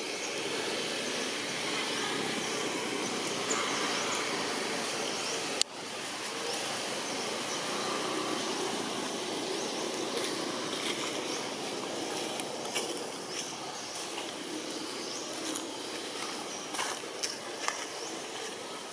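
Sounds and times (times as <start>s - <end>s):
outdoor background noise: 0.0s - 18.9s.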